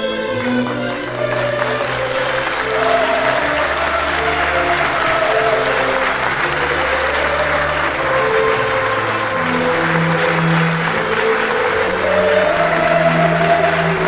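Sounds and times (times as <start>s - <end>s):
audience applauding: 0.1s - 14.0s.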